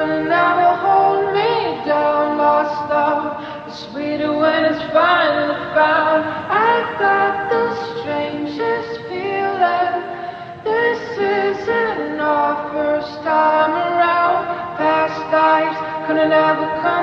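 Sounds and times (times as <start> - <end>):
person singing a melody: 0.0 - 17.0.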